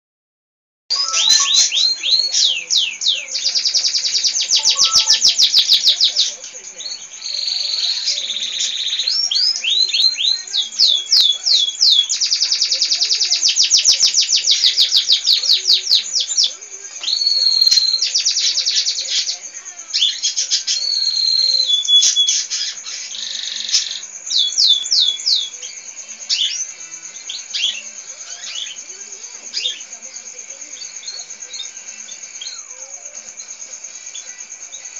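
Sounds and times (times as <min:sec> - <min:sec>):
canary singing: 0:00.9 - 0:34.9.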